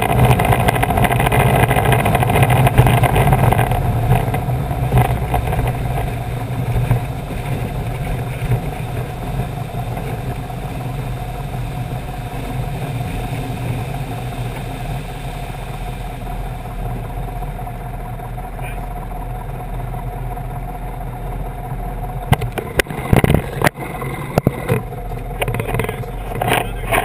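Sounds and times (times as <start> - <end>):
propeller plane engine running: 0.0 - 27.0
water rushing along float: 0.0 - 27.0.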